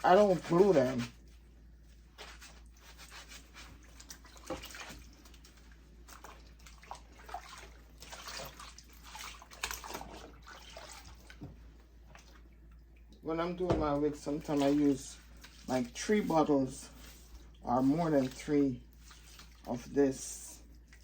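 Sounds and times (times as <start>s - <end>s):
water sloshing in a sink: 0.0s - 21.0s.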